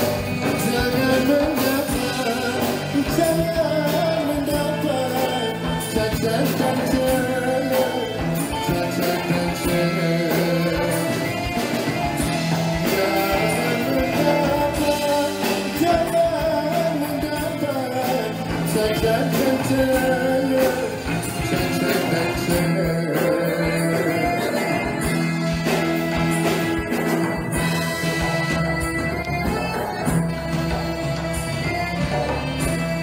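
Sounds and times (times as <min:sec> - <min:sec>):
drum kit beat: 0:00.0 - 0:33.0
live band playing: 0:00.0 - 0:33.0
man singing: 0:00.0 - 0:33.0.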